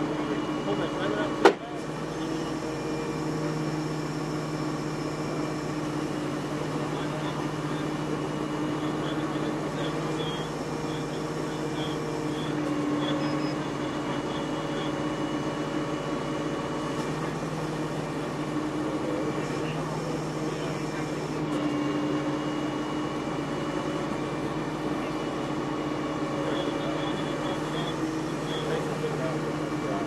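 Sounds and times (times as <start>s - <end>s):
heavy vehicle engines idling: 0.0s - 30.0s.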